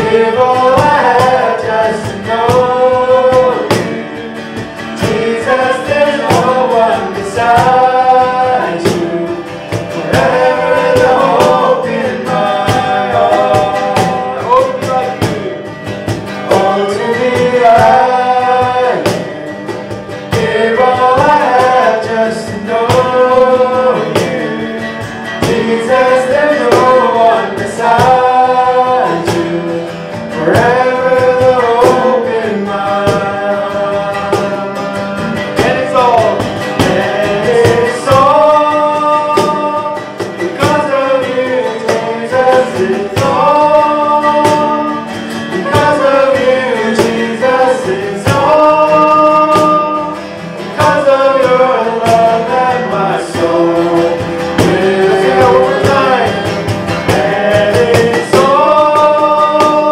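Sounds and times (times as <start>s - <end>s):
cajon hits: 0.0s - 59.9s
man and woman singing: 0.0s - 59.9s
strummed acoustic guitar: 0.0s - 59.9s.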